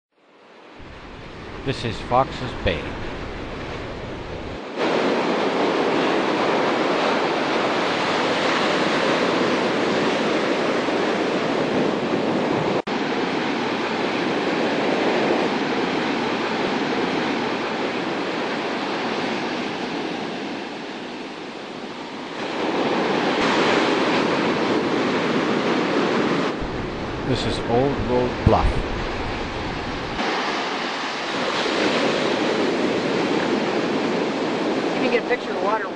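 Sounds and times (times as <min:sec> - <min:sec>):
ocean surf breaking: 0:00.6 - 0:35.9.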